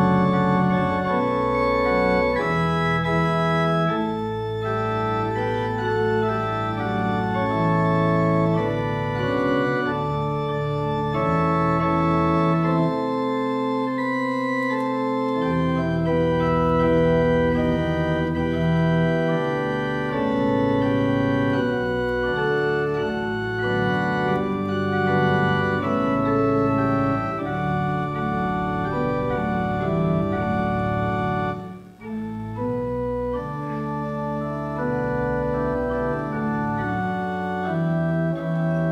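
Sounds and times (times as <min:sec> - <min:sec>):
organ playing sustained chords: 0:00.0 - 0:38.9.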